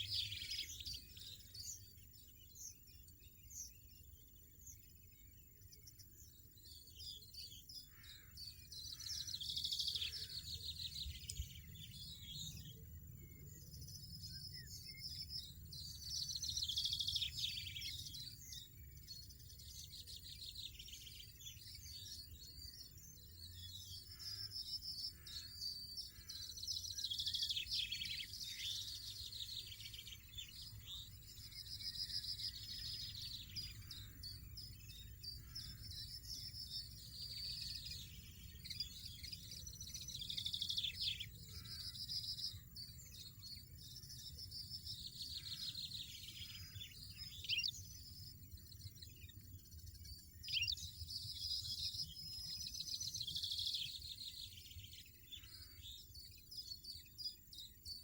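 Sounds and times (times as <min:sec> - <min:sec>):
bird twittering trills: 0:00.0 - 0:58.0.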